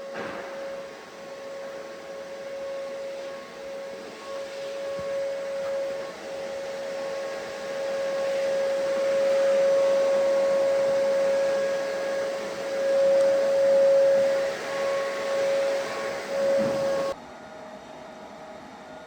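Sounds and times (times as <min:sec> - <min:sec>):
small motor whining: 0:00.7 - 0:17.2.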